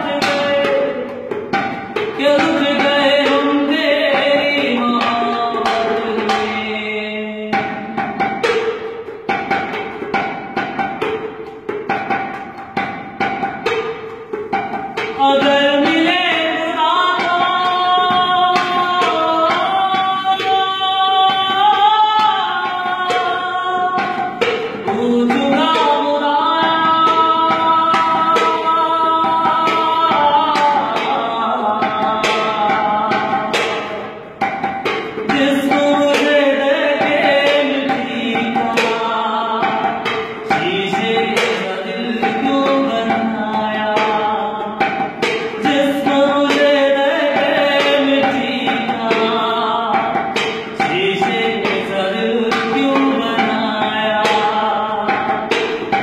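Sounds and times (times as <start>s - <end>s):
man singing: 0.0s - 8.0s, 15.0s - 34.4s, 35.2s - 55.9s
hands drumming on metal tins: 0.0s - 56.0s.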